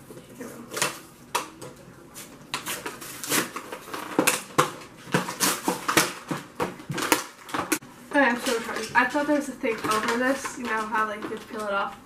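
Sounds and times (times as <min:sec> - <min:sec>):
plastic packaging crackling: 0:02.2 - 0:12.0.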